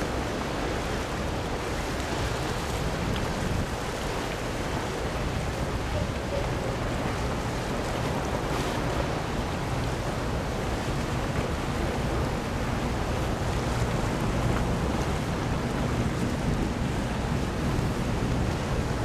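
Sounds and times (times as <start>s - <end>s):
choppy water: 0.0s - 19.0s
wind noise on microphone: 0.0s - 19.0s.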